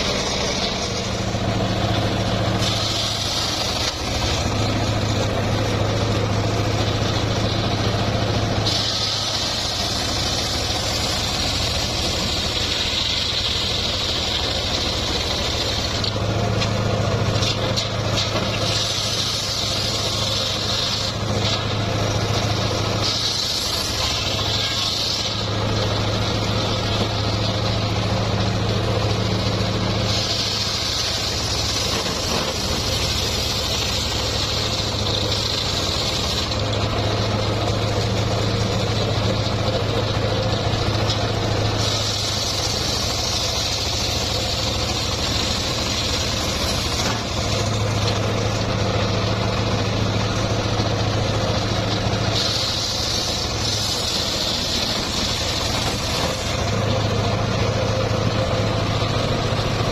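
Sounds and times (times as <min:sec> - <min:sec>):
saw blade cutting wood whine: 0:00.0 - 0:59.9
sawmill engine humming: 0:00.0 - 0:59.9.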